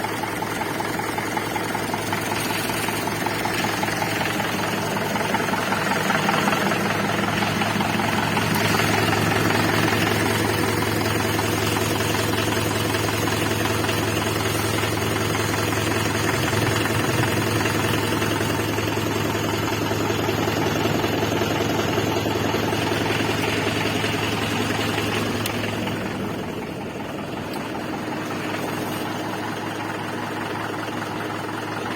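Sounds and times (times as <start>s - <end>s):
diesel tractor engine idling: 0.0s - 31.9s.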